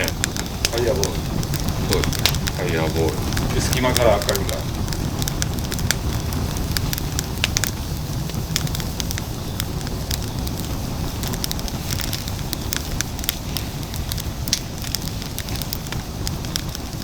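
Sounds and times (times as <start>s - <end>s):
firewood crackling and popping: 0.0s - 17.0s
steady low rumble: 0.0s - 17.0s.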